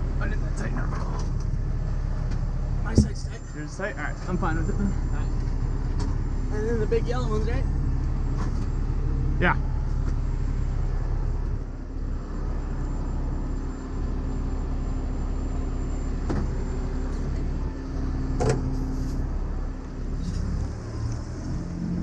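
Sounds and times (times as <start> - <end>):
truck engine idling: 0.0 - 21.2.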